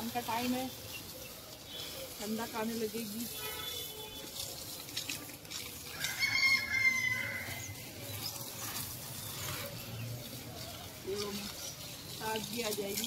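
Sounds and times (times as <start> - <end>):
water splashing on plants: 0.0 - 13.0.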